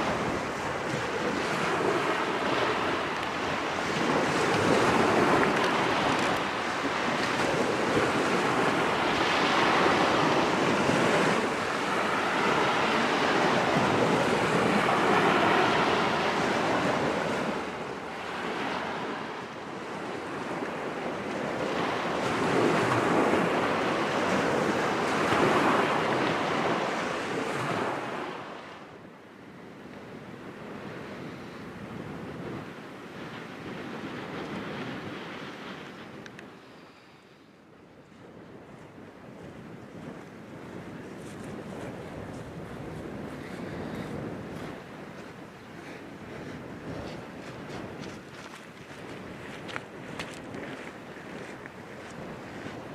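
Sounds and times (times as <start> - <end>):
waves washing on shore: 0.0 - 52.9
wind: 0.0 - 52.9.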